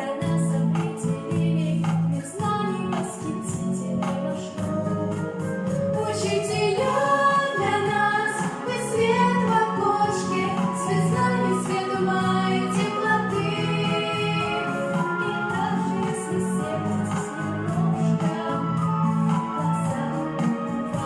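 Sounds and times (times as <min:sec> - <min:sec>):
backing track music: 0:00.0 - 0:21.0
women singing in harmony: 0:00.0 - 0:21.0.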